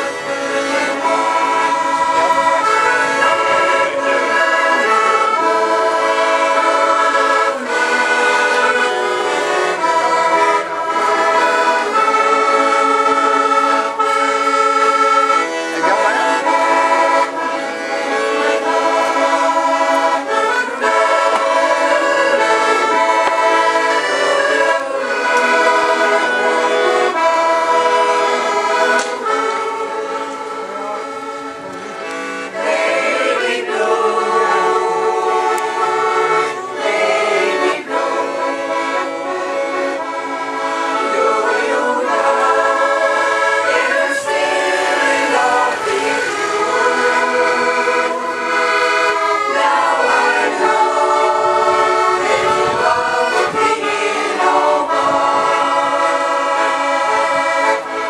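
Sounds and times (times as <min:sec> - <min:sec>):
accordion: 0:00.0 - 0:58.0
women's choir singing: 0:00.0 - 0:58.0.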